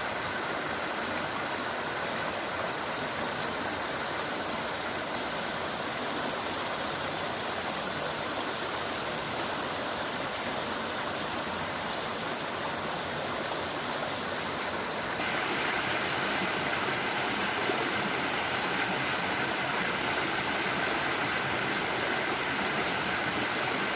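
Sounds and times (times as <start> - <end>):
stream water rushing: 0.0 - 23.9.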